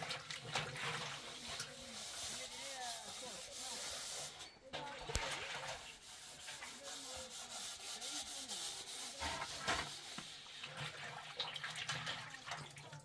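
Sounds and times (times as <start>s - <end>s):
scraping inside steel container: 0.0s - 11.2s.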